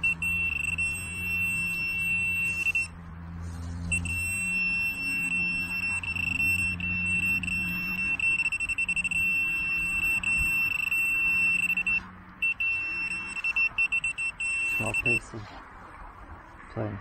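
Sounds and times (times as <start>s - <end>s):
metal detector buzzing tone: 0.0s - 3.0s, 3.8s - 15.2s.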